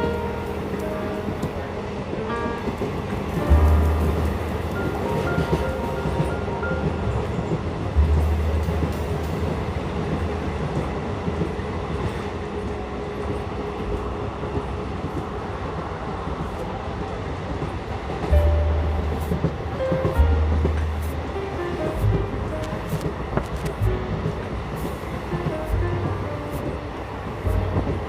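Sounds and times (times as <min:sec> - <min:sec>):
passenger train on track: 0:00.0 - 0:28.0.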